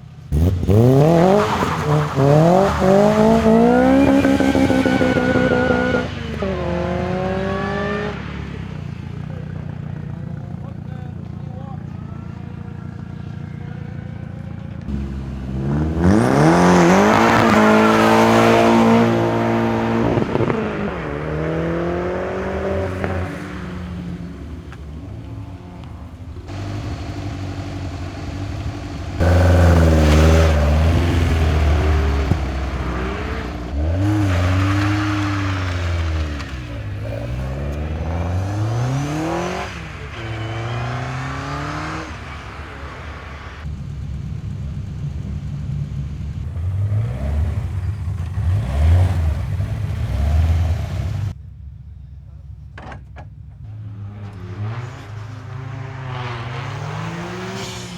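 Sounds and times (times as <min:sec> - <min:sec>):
racing car engine accelerating: 0:00.3 - 0:11.4, 0:12.1 - 0:43.7, 0:46.4 - 0:51.4.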